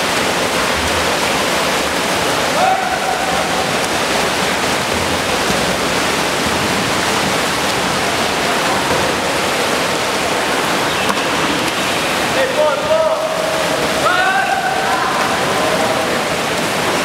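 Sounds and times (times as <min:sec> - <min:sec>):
water splashing and churning: 0:00.0 - 0:17.0.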